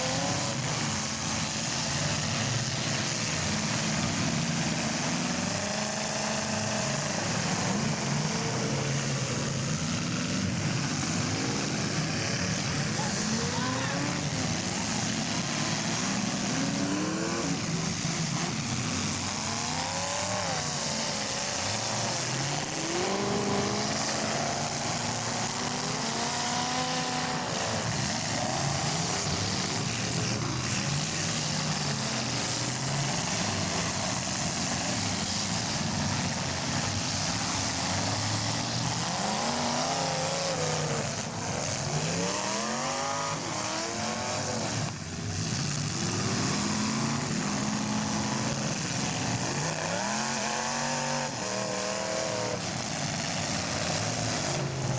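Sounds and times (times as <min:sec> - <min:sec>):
car engines revving: 0:00.0 - 0:54.9
steady hiss: 0:00.0 - 0:54.9.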